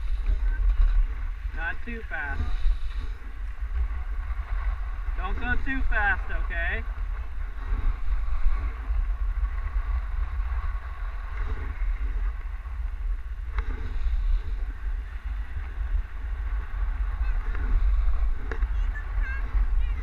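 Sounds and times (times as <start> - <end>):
skis sliding over snow: 0.0 - 20.0
wind buffeting microphone: 0.0 - 20.0.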